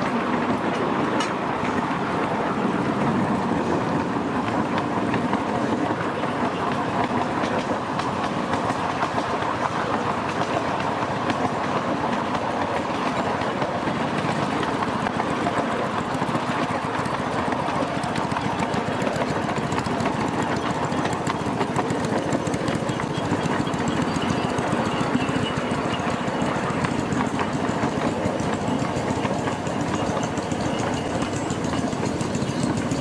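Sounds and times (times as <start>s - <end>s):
miniature steam locomotive running: 0.0s - 33.0s.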